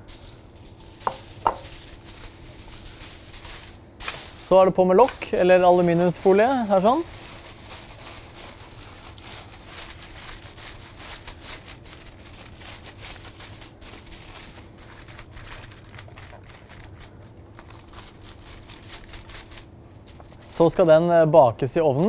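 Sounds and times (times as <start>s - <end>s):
aluminium foil crinkling: 0.0s - 21.1s, 21.7s - 22.0s.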